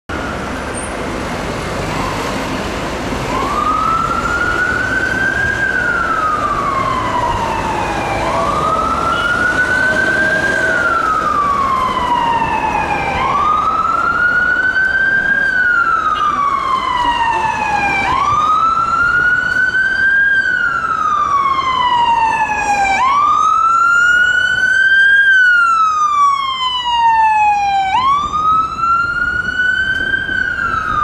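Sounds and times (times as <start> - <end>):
emergency vehicle siren wailing: 0.1 - 31.0
higher gliding siren tones: 3.2 - 31.0.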